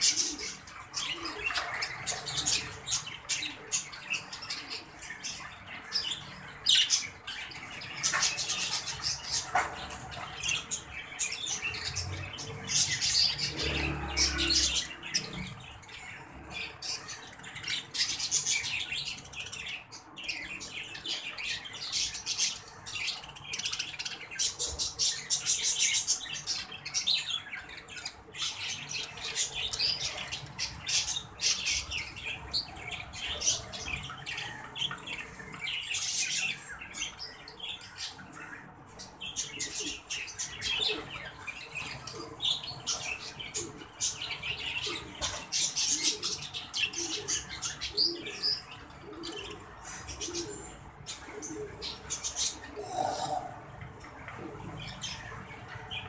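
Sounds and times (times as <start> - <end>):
budgerigars chattering and warbling: 0.0 - 56.0.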